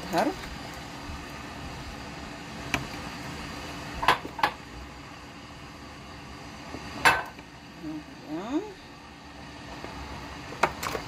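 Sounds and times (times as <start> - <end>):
kitchen fan hum: 0.0 - 11.0.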